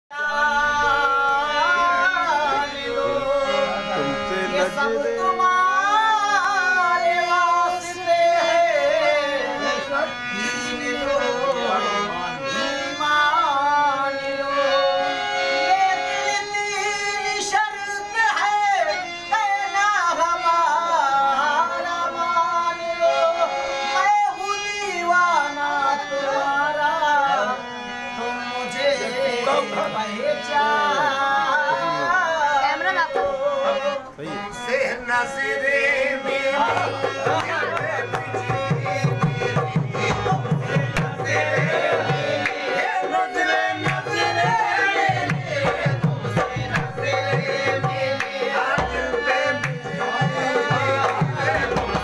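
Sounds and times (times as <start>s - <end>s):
harmonium chords and runs: 0.1s - 52.0s.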